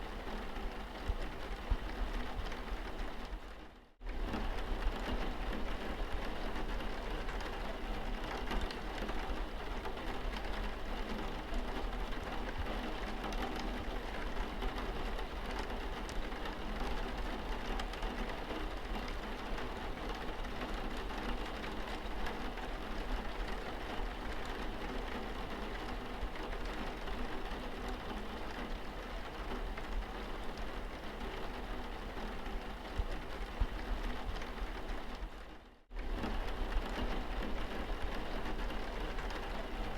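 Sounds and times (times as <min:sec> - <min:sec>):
rain on car windscreen: 0:00.0 - 0:39.9.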